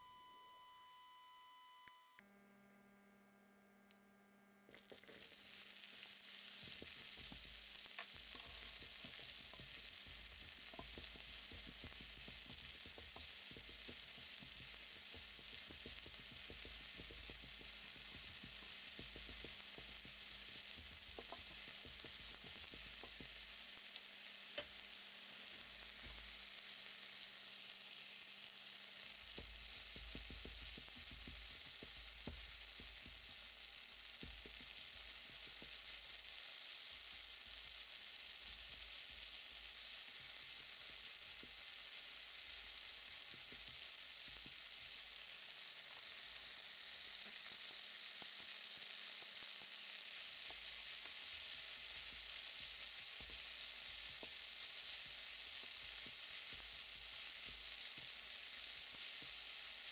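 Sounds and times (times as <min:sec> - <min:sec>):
onion sizzling in oil: 0:04.7 - 0:59.9.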